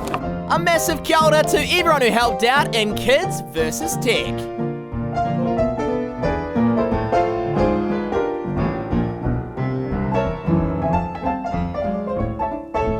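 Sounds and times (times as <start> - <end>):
piano background music: 0.0 - 12.9.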